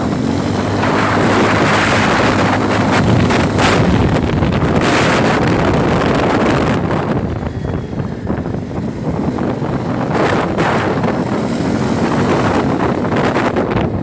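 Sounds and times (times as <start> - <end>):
quad bike engine running: 0.0 - 14.0
wind noise on microphone: 0.0 - 14.0.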